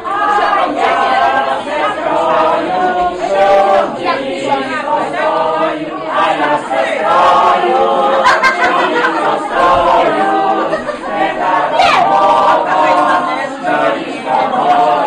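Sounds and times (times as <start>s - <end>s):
group singing unaccompanied: 0.0s - 15.0s.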